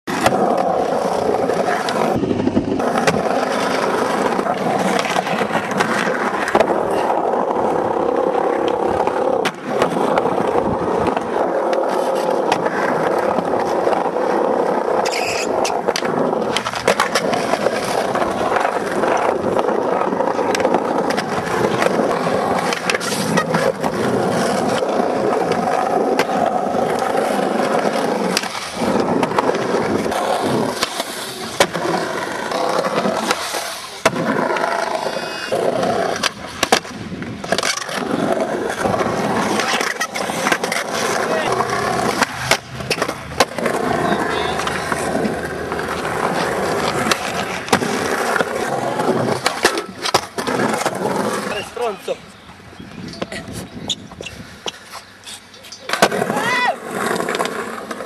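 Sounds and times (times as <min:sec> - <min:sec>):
skateboard wheels rolling: 0:00.0 - 0:58.0
skateboard clacks: 0:00.1 - 0:51.9, 0:52.9 - 0:58.0.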